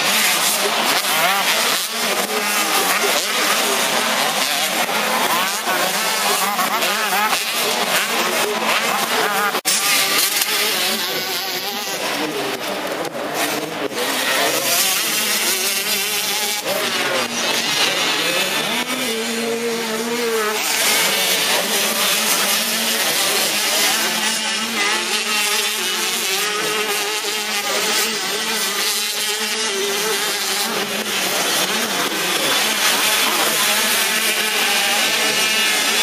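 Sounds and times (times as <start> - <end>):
motocross bikes buzzing: 0.0 - 36.0.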